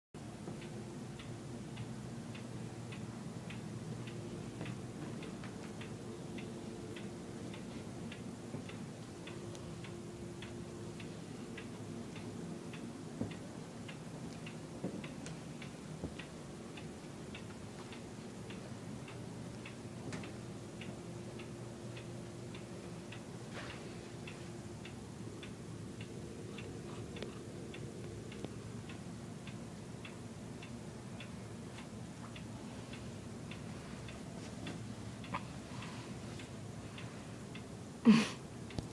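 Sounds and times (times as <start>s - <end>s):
low steady hum: 0.2s - 38.9s
regular ticking: 0.2s - 38.9s.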